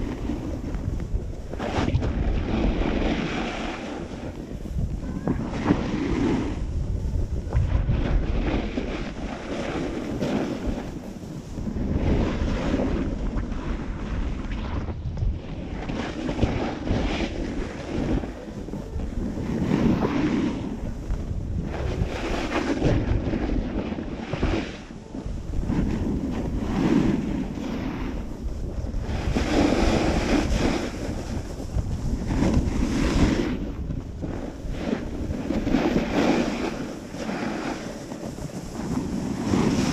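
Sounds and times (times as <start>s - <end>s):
snowboard scraping on snow: 0.0s - 39.9s
wind on microphone: 0.0s - 39.9s.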